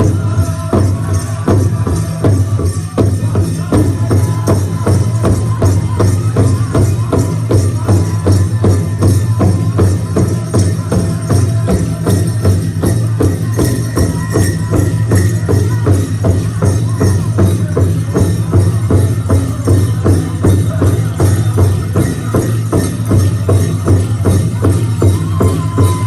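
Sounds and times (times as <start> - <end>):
people singing: 0.0 - 26.0.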